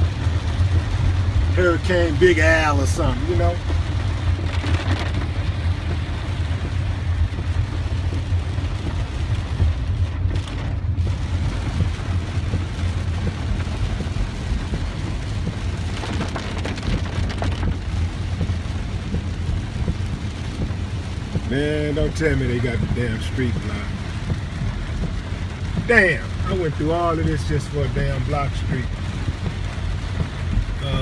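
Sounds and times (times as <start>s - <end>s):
car engine and tyres rumbling: 0.0s - 31.0s
rain hitting car: 0.0s - 31.0s.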